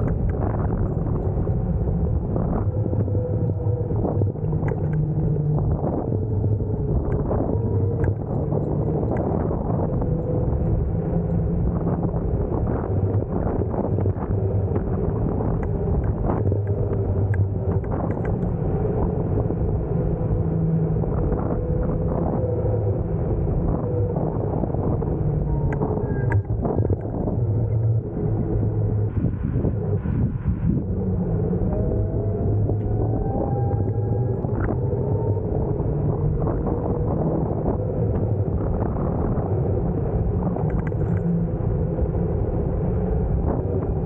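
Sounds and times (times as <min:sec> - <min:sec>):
low steady hum: 0:00.0 - 0:44.0
tyres and wind rumble: 0:00.0 - 0:44.0.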